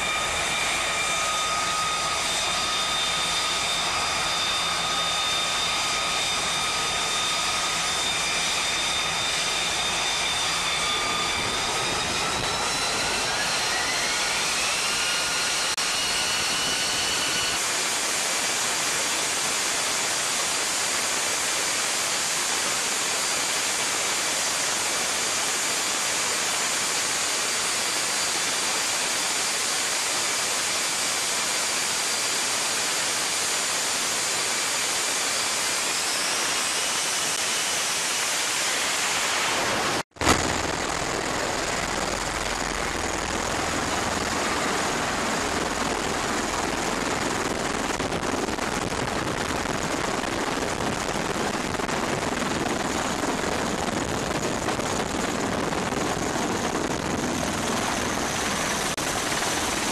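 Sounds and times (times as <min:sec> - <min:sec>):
jet engine roar: 0:00.0 - 0:59.9
jet engine turbine whine: 0:00.0 - 0:59.9.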